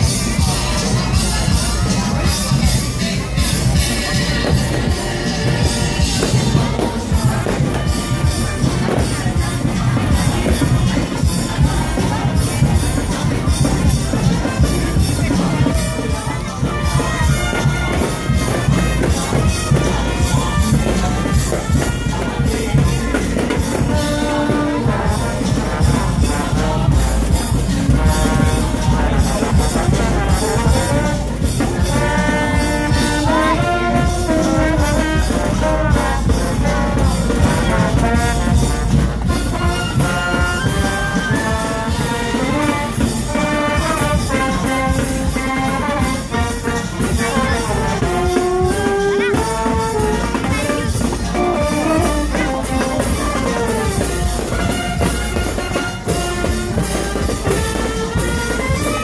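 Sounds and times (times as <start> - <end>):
bass drum beat: 0.0 - 59.0
brass band playing: 0.0 - 59.0.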